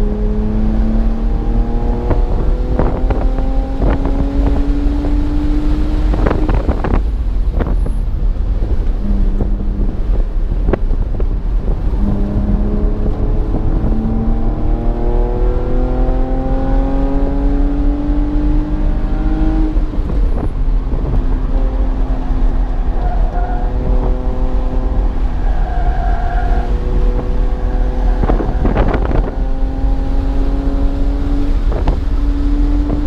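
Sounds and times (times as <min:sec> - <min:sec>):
car engine accelerating: 0:00.0 - 0:33.0
road and wind noise: 0:00.0 - 0:33.0.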